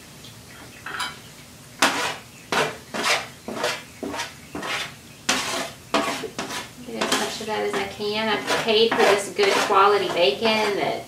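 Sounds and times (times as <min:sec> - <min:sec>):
baking sheet scraping glass jar: 0:01.8 - 0:11.0.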